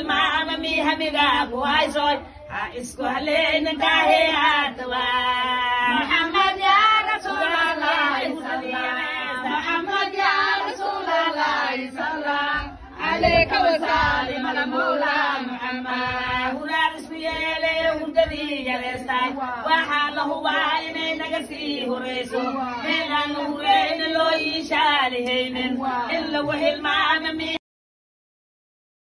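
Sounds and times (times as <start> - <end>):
women singing devotional chant: 0.0 - 27.6.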